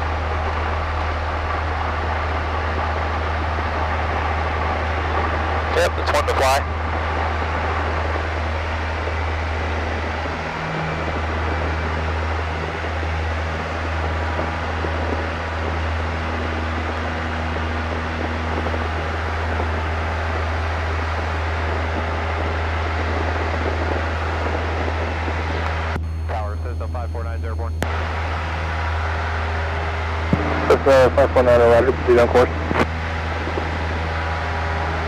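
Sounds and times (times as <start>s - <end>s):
light airplane engine droning: 0.0s - 35.0s.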